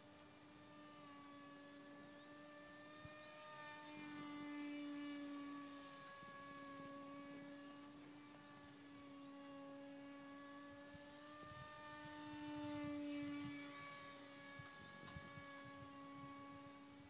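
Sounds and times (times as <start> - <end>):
model plane motor humming: 0.0 - 17.0.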